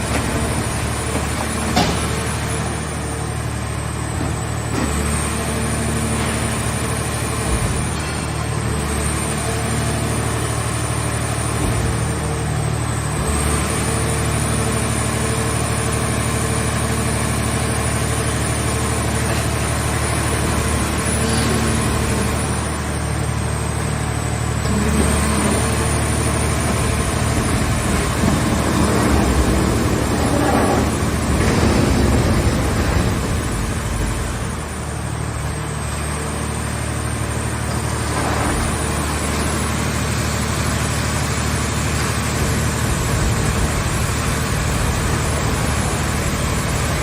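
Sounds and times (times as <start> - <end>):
baler engine running: 6.3 - 47.0.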